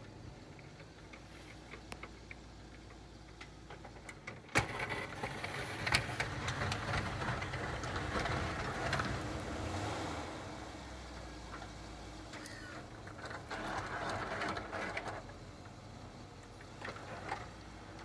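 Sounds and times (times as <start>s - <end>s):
plow blade pushing snow: 0.0s - 18.0s
truck engine running: 0.0s - 18.0s.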